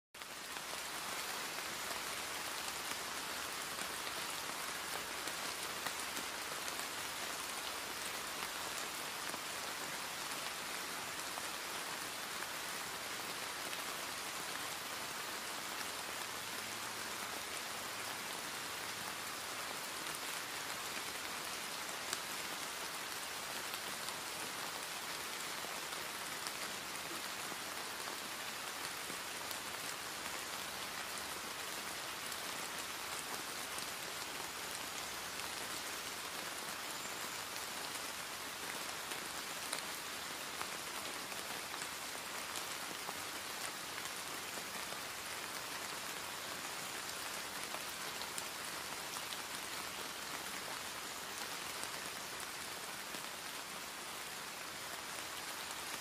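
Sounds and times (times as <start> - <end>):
rain drops ticking: 0.2 - 56.0
steady rain hiss: 0.2 - 56.0.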